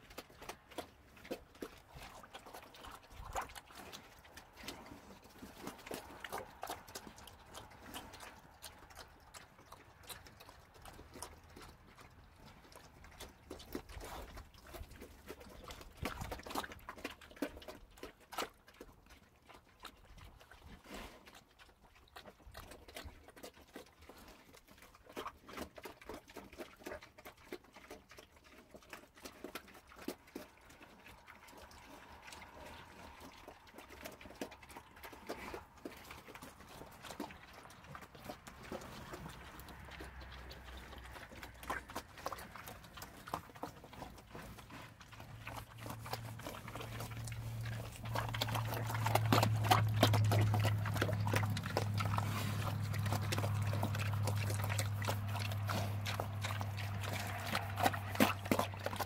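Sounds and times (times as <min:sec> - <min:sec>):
pigs chomping and slurping: 0:00.0 - 0:59.0.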